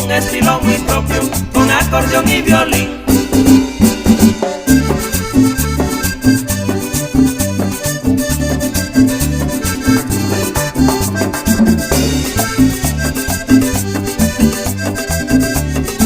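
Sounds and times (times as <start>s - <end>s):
accordion lead: 0.0s - 16.0s
bouncing bass: 0.0s - 16.0s
percussion: 0.0s - 16.0s.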